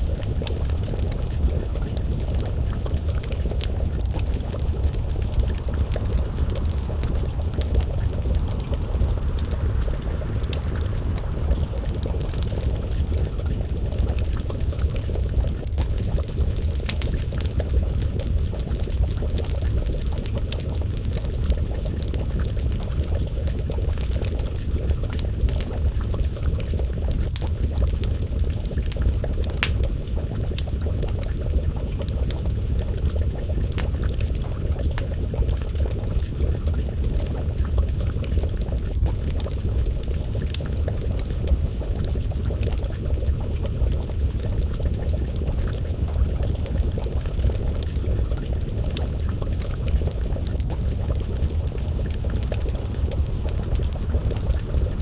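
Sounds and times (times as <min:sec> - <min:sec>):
burning wood crackling: 0:00.0 - 0:55.0
stew bubbling: 0:00.0 - 0:55.0.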